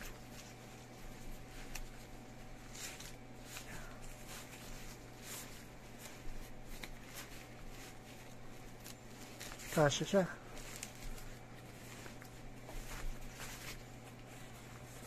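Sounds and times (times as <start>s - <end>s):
jacket fabric rustling: 0.0s - 15.0s.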